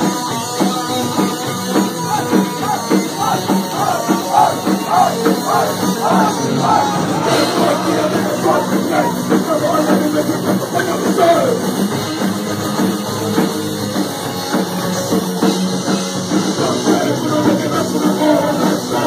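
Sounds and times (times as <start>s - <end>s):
drum kit: 0.0s - 19.0s
electric guitar: 0.0s - 19.0s.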